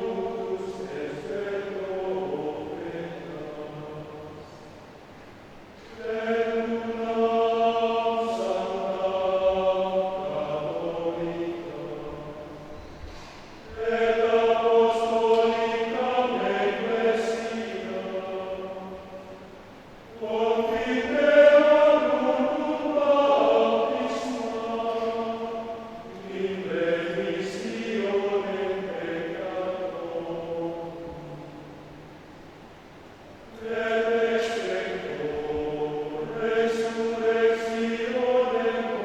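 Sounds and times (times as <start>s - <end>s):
men's choir singing in harmony: 0.0s - 39.0s.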